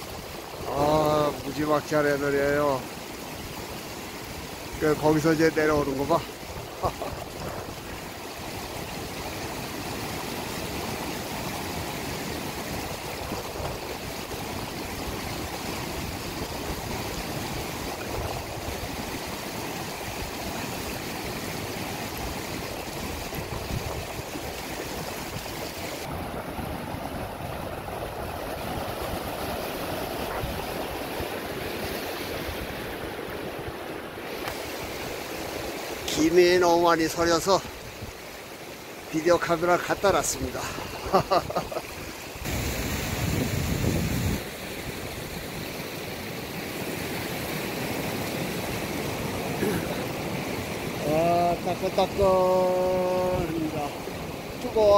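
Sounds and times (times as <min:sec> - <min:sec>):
water rushing over rocks: 0:00.0 - 0:54.9.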